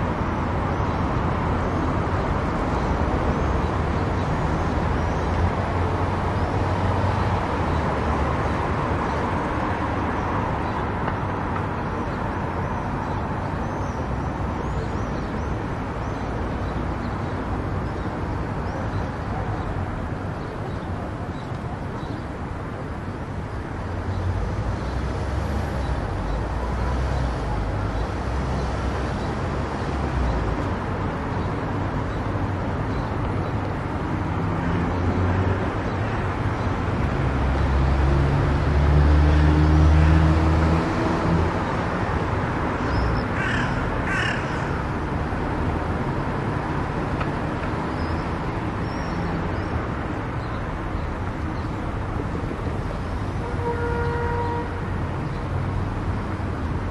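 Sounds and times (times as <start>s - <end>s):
car road and tyre noise: 0.0s - 56.9s.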